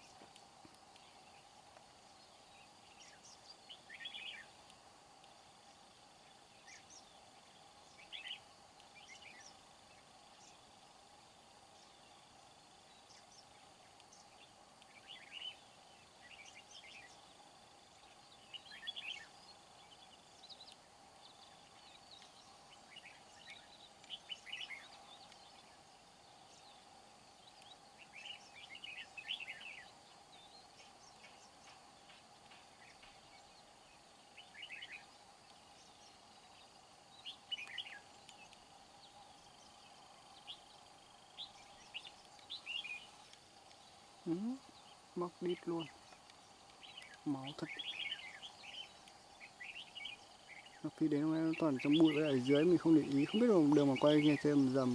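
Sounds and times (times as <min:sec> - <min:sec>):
birds chirping: 0:00.0 - 0:54.9
faint steady hum: 0:00.0 - 0:54.9.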